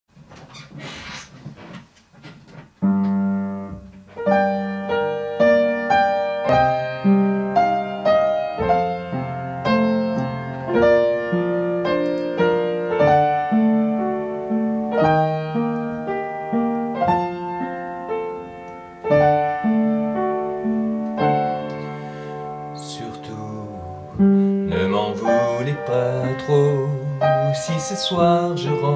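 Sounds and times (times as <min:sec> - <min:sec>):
upright piano playing: 0:02.8 - 0:28.9.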